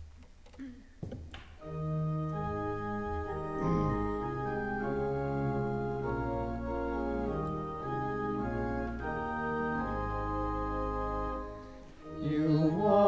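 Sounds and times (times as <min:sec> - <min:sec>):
organ playing sustained chords: 0:01.6 - 0:13.0.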